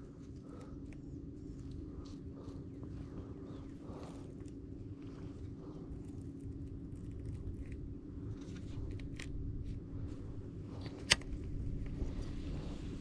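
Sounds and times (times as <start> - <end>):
faint hum: 0.0 - 13.0
low rumble: 0.0 - 13.0.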